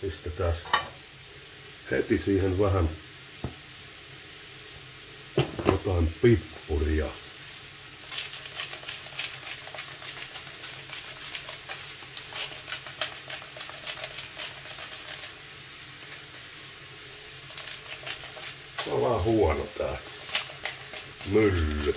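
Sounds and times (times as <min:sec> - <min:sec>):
meat and onion sizzling: 0:00.0 - 0:21.9.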